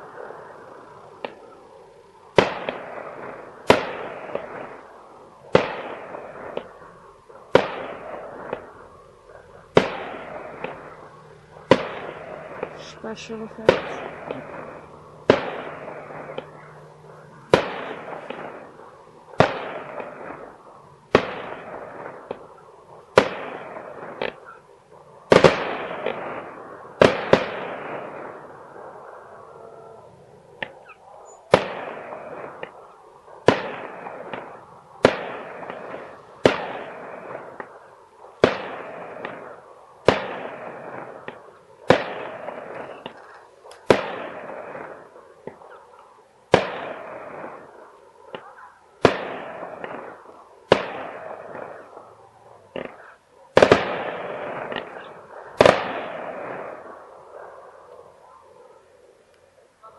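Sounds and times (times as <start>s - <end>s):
fireworks bangs: 0.0s - 59.9s
rumble of fireworks: 0.0s - 59.9s.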